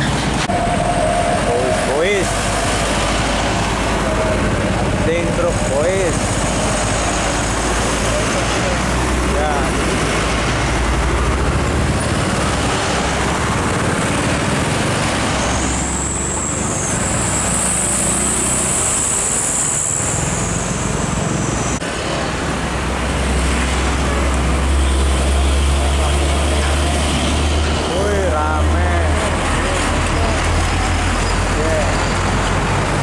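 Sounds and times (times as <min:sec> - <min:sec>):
diesel truck engine rumble: 0:00.0 - 0:33.0.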